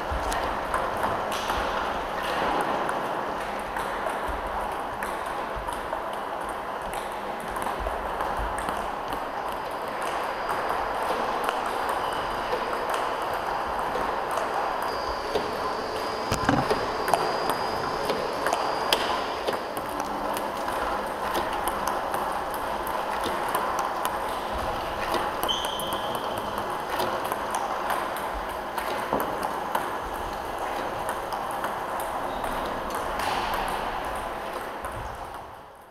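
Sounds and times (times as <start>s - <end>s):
table tennis balls clicking: 0.2s - 15.6s, 16.3s - 35.6s.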